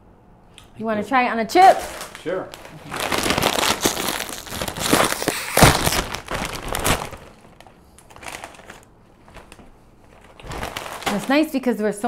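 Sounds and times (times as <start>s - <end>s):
plastic chip bag crinkling: 1.6s - 11.7s.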